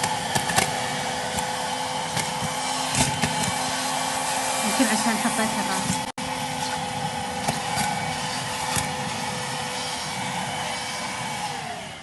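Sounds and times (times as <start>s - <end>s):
handheld vacuum cleaner whining: 0.0s - 12.0s.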